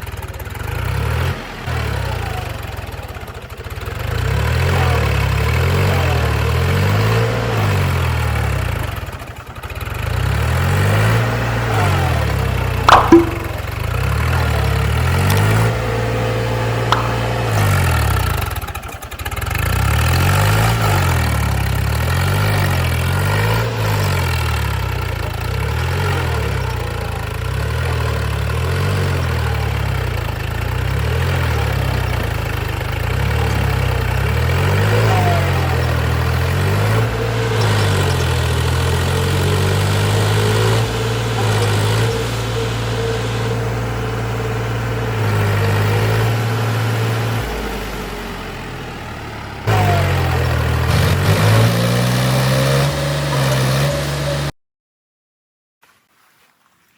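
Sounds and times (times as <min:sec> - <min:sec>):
diesel engine revving: 0:00.0 - 0:54.5.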